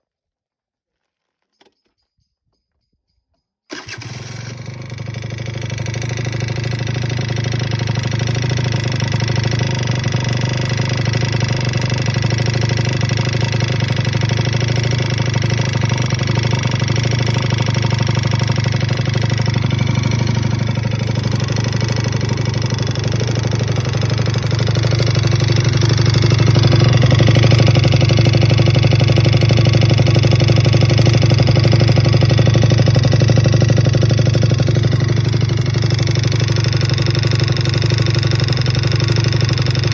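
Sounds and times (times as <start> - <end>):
moped engine running: 3.7 - 39.9.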